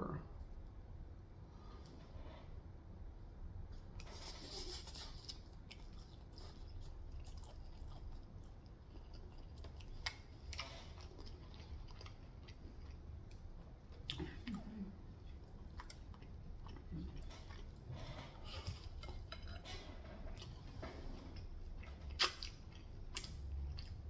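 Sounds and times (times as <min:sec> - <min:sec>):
quiet chewing of fried chicken: 0:00.0 - 0:24.0.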